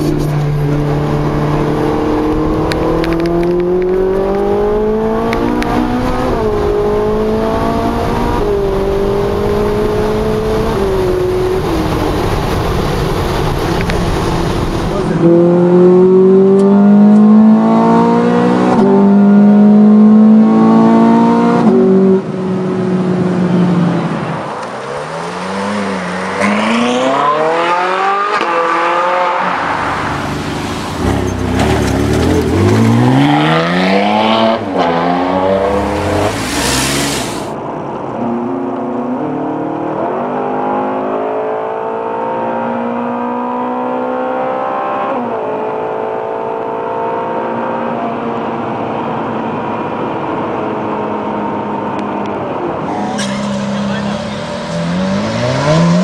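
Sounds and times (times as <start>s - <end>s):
car engines accelerating hard: 0.0s - 56.0s.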